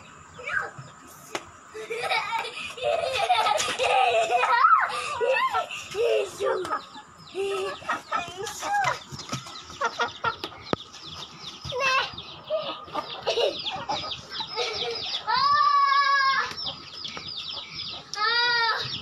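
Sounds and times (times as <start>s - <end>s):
chickens clucking and squawking: 0.0s - 19.0s.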